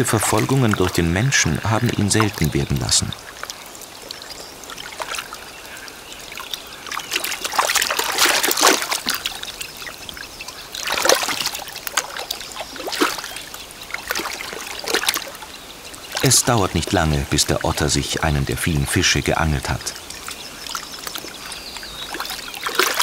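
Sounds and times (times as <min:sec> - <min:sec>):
water splashing and trickling: 0:00.0 - 0:23.0.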